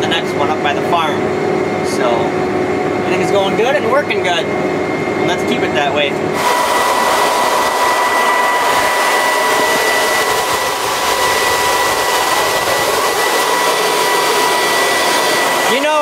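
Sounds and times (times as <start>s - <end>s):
high whine: 0.0s - 16.0s.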